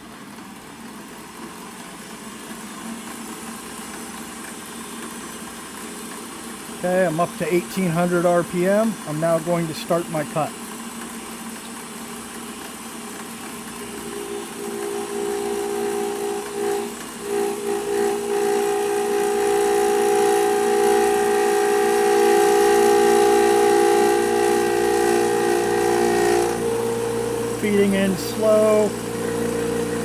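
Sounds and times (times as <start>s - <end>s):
milling machine cutting tube: 1.7s - 30.0s
steady pitched cutting whine: 3.1s - 30.0s.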